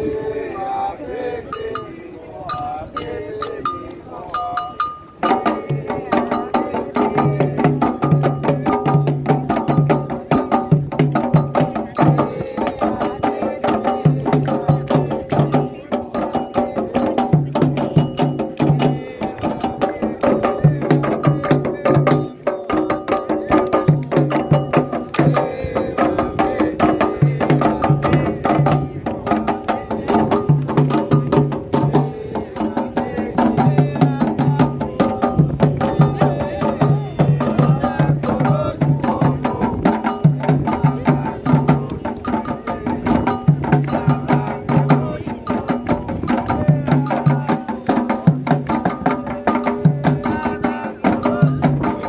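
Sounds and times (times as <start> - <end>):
voices chanting: 0.0 - 52.0
hand drums playing: 1.5 - 52.0
struck bell rhythm: 1.5 - 52.0.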